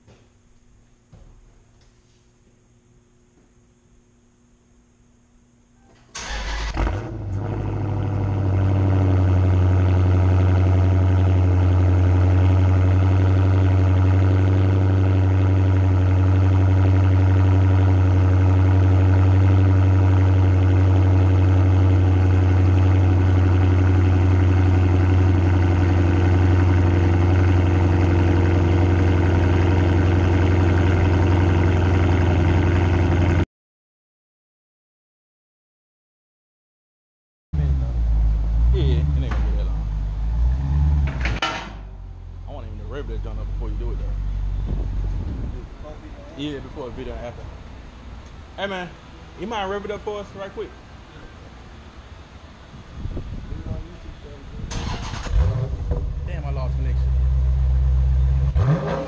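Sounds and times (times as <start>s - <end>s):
loud car engine starting and idling: 6.1s - 33.4s, 37.6s - 59.0s.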